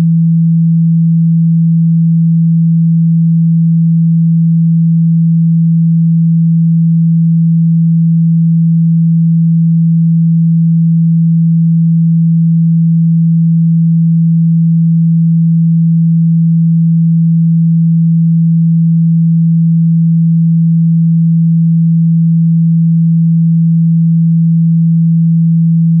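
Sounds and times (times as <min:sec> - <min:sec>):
low sine-wave test tone: 0:00.0 - 0:26.0.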